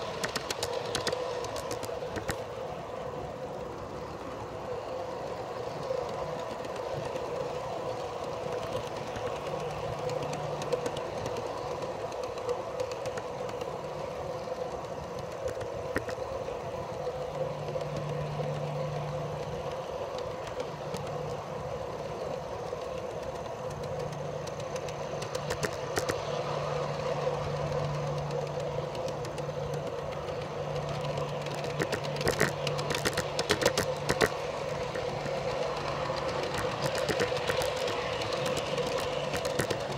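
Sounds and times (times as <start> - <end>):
small train wheels rolling on track: 0.0 - 39.9.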